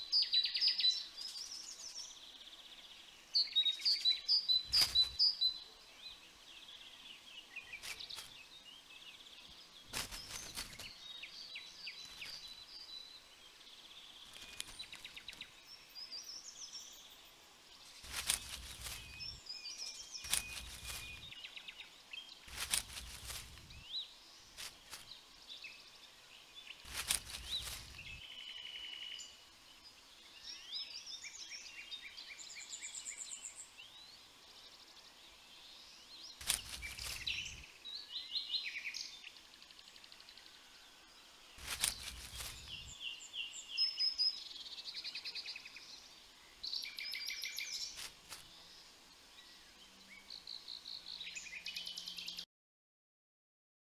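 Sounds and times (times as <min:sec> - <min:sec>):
small birds chirping: 0:00.0 - 0:52.5.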